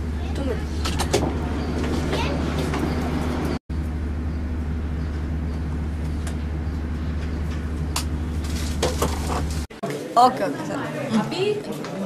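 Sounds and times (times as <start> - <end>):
low mechanical hum: 0.0 - 9.7.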